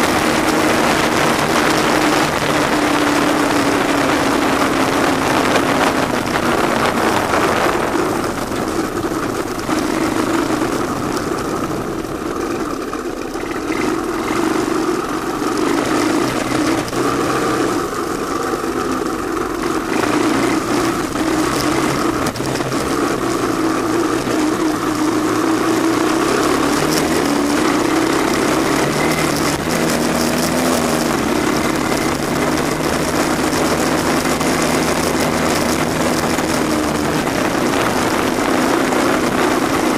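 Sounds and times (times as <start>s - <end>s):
three-wheeler engine running: 0.0s - 39.9s.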